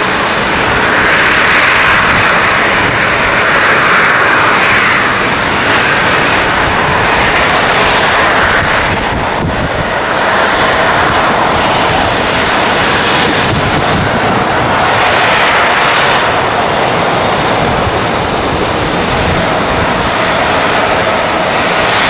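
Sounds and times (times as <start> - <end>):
airliner engines running: 0.0 - 22.0.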